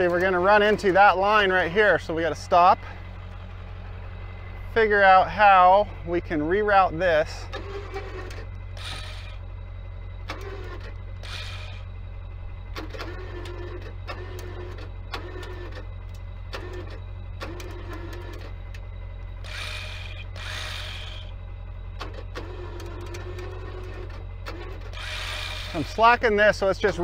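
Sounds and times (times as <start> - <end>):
truck engine running: 0.0 - 27.0
winch motor whine: 0.0 - 27.0.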